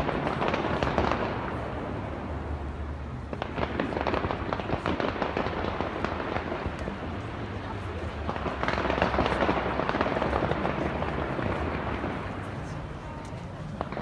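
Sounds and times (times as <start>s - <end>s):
fireworks crackling: 0.0s - 14.0s.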